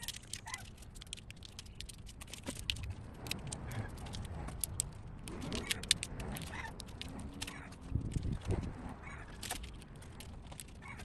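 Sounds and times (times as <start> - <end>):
wiring connectors clicking and rattling: 0.0 - 11.0.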